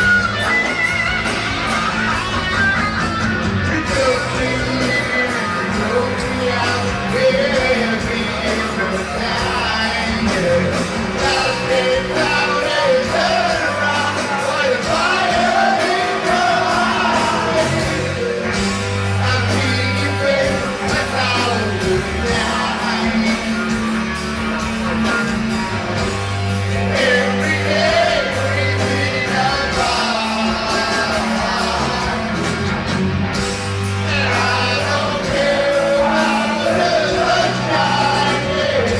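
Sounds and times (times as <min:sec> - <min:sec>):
live rock band with singing: 0:00.0 - 0:38.9.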